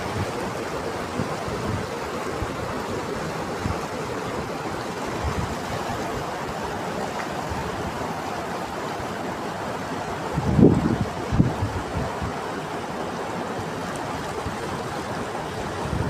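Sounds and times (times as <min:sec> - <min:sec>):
river water rushing over rocks: 0:00.0 - 0:16.0.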